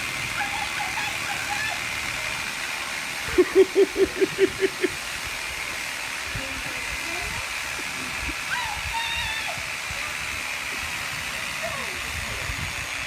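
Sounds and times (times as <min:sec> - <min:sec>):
reciprocating saw cutting wood: 0:00.0 - 0:13.0.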